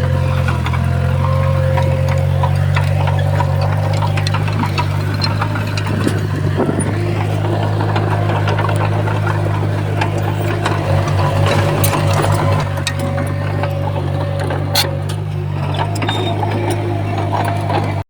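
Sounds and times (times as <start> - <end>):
bulldozer diesel engine running: 0.0 - 18.0
sharp clanks and clicks: 0.0 - 18.0.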